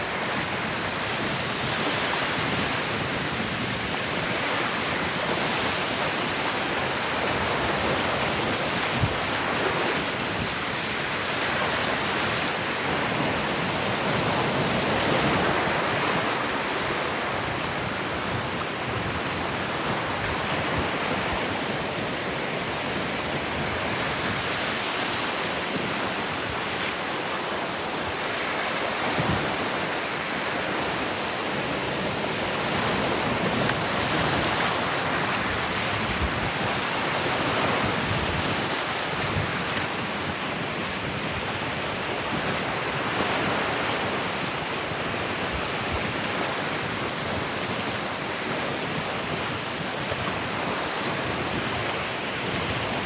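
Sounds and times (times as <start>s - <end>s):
ocean surf washing ashore: 0.0s - 53.0s
wind on microphone: 0.0s - 53.0s.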